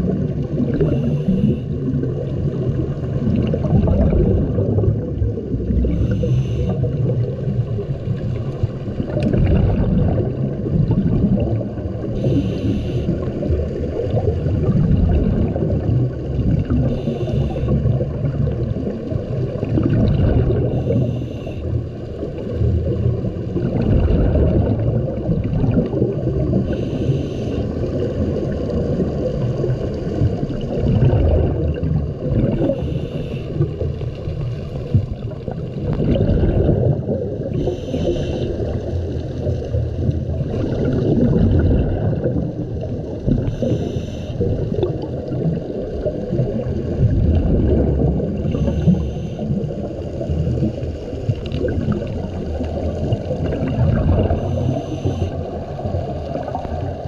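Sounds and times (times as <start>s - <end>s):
water rumbling past camera: 0.0s - 12.4s, 13.1s - 21.1s, 21.8s - 26.8s, 27.8s - 32.9s, 33.5s - 43.8s, 44.4s - 49.0s, 49.6s - 57.0s
exhaled regulator bubbles: 0.0s - 57.0s.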